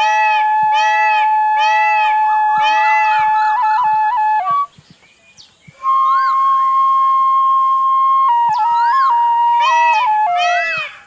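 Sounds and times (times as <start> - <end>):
bamboo flute melody: 0.0 - 4.9, 5.7 - 11.0.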